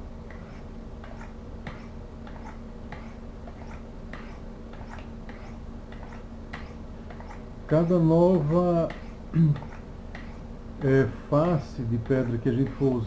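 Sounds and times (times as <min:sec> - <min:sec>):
knife stroking ceramic rods: 0:00.3 - 0:13.0.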